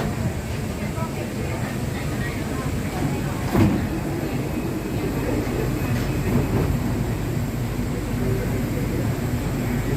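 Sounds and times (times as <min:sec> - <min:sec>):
monorail train rumbling: 0:00.0 - 0:09.9.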